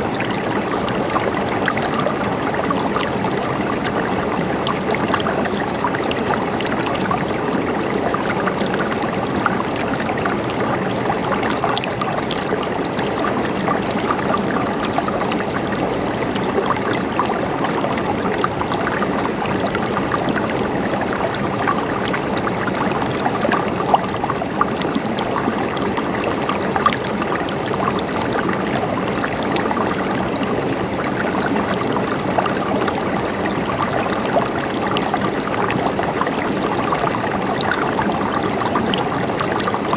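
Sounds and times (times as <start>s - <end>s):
small water splashes and trickles: 0.0s - 39.9s
stream of water flowing: 0.0s - 39.9s.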